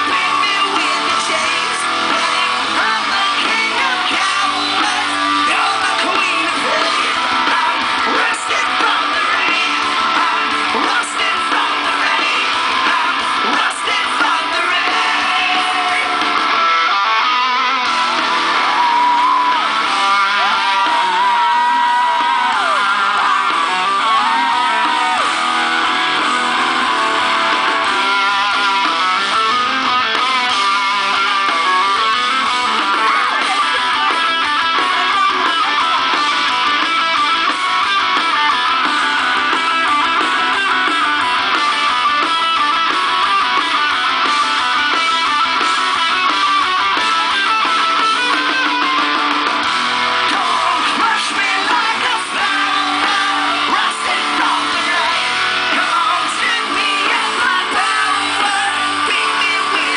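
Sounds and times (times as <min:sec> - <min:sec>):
rock music with electric guitar: 0:00.0 - 0:59.9.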